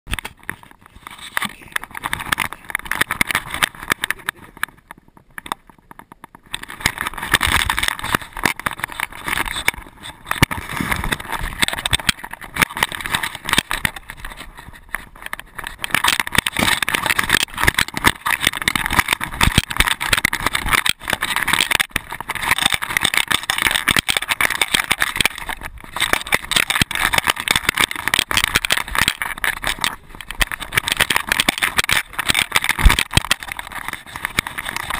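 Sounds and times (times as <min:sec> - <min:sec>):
camera rubbing and rattling: 0:00.1 - 0:34.9.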